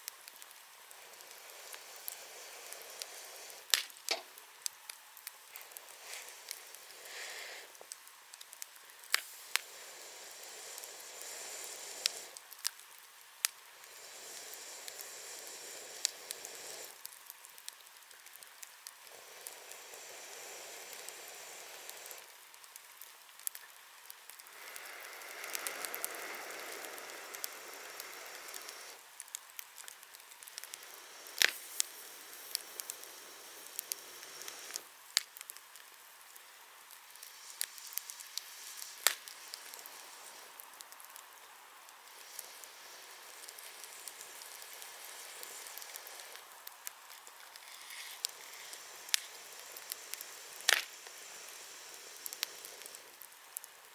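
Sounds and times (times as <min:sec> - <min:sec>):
bonfire crackling and popping: 0:00.0 - 0:53.9
soft hiss of fire: 0:00.0 - 0:53.9.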